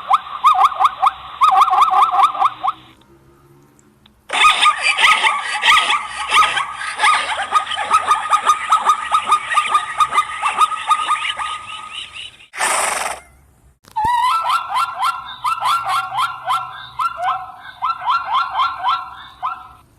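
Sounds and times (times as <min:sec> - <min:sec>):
zebra barking yelps: 0:00.0 - 0:02.9, 0:04.3 - 0:13.4, 0:14.1 - 0:19.9.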